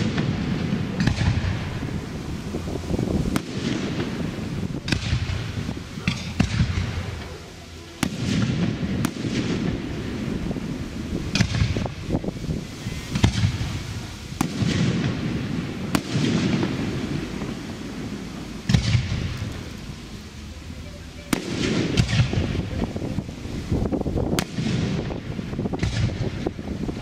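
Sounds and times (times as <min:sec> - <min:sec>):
firework shells bursting: 0:00.0 - 0:20.4, 0:21.2 - 0:27.0
low rumbling echo: 0:00.0 - 0:27.0.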